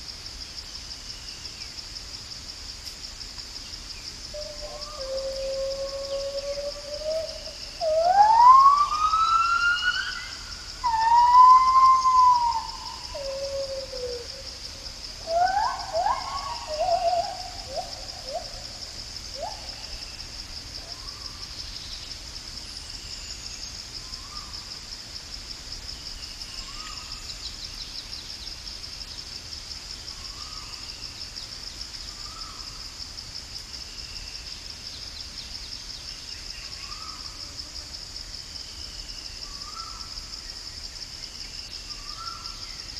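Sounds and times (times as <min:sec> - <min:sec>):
high insect drone: 0:00.0 - 0:42.9.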